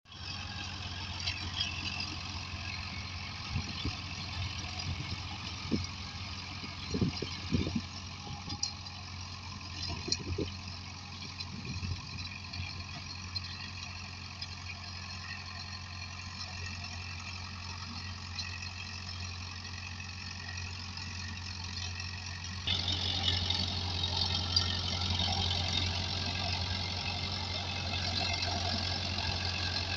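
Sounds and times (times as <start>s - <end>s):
tractor diesel engine running: 0.1s - 29.9s.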